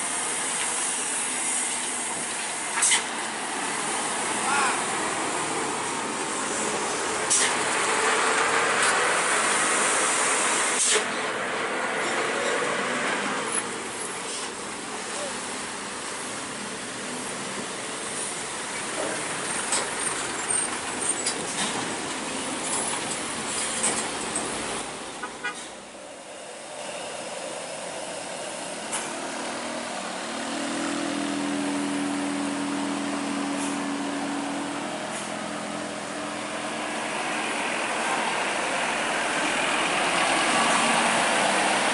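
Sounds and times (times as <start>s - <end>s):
traffic noise: 0.0s - 41.9s
truck engine and tyre noise: 0.0s - 41.9s.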